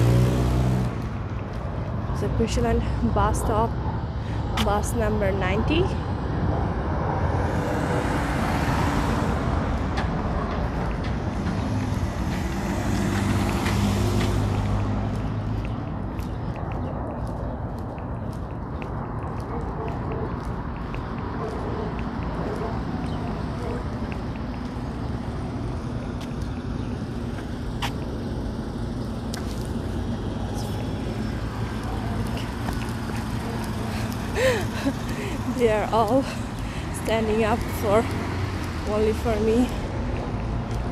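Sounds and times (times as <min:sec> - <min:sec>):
vehicles passing on road: 0:00.0 - 0:40.9.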